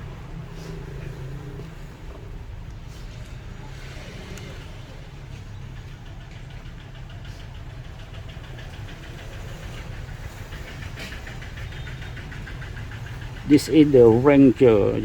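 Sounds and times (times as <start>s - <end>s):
engine humming steadily: 0.0s - 15.0s
fast faint regular ticking: 0.0s - 15.0s.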